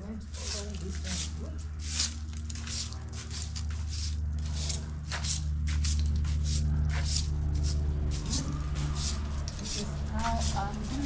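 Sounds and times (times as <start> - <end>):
steady low hum: 0.0 - 11.0
broom sweeping leaves on brick: 0.2 - 11.0.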